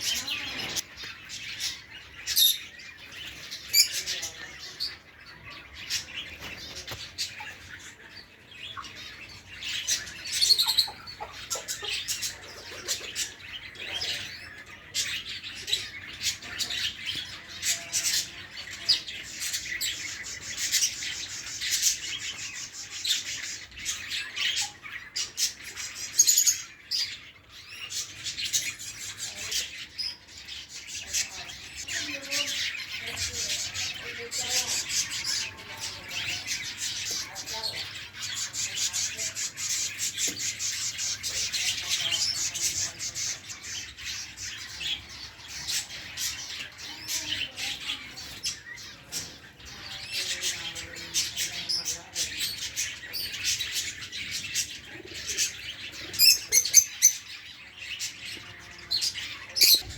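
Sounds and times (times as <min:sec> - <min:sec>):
birds chirping and squawking: 0:00.0 - 0:59.9.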